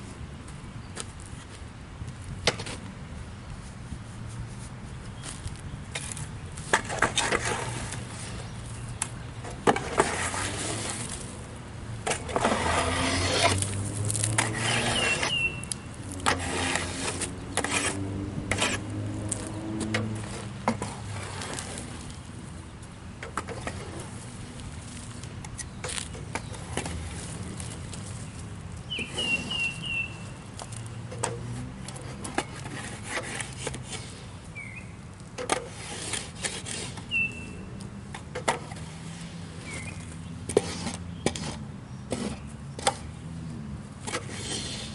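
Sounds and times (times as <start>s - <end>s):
rake board scraping sawdust: 2.4s - 2.9s, 3.5s - 44.9s.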